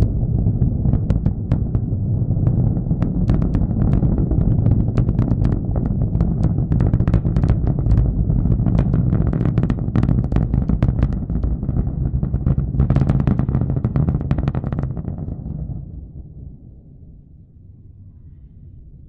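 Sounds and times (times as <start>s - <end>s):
rocket engine roar with crackling: 0.0s - 17.8s.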